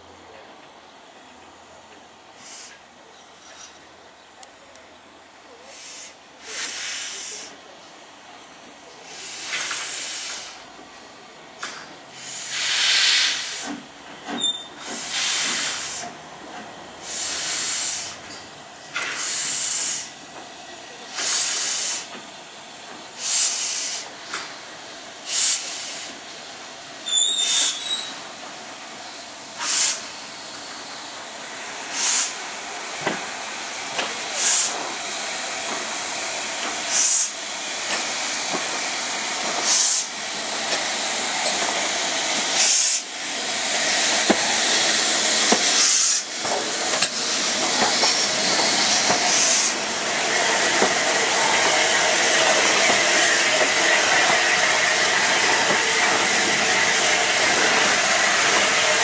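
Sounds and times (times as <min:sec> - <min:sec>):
steady steam hiss: 0:00.0 - 0:59.0
steam hissing in sharp blasts: 0:02.3 - 0:02.8, 0:05.6 - 0:07.8, 0:08.9 - 0:10.7, 0:11.7 - 0:16.3, 0:16.9 - 0:59.0.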